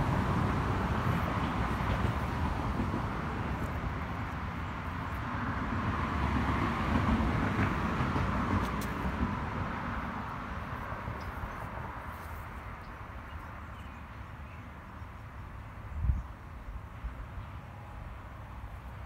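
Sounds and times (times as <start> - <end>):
outdoor background rumble and hiss: 0.0 - 19.0.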